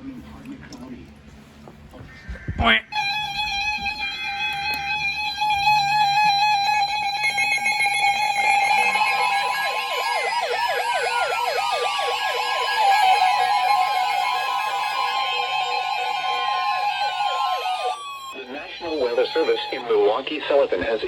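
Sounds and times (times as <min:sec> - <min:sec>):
steady electronic alarm tone: 0:02.9 - 0:21.0
warbling siren: 0:02.9 - 0:21.0.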